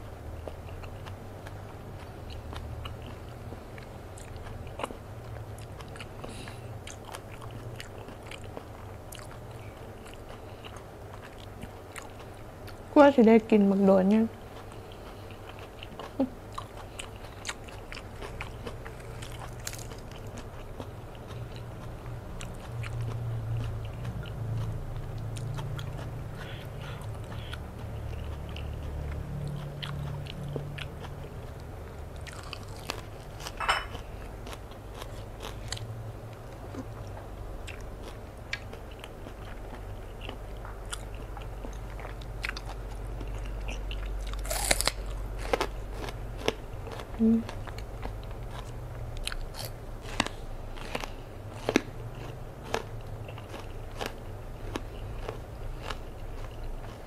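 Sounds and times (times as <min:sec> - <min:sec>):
low steady hum: 0:00.0 - 0:57.0
person chewing: 0:00.4 - 0:12.8, 0:14.3 - 0:57.0.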